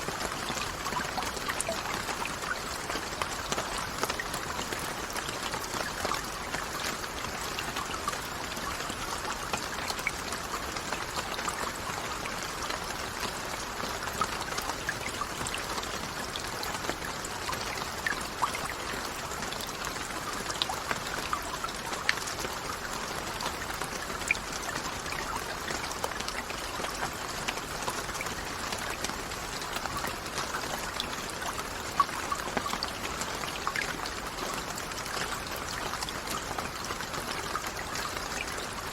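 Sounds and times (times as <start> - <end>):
steady rainfall: 0.0 - 38.9
water trickling: 0.0 - 38.9.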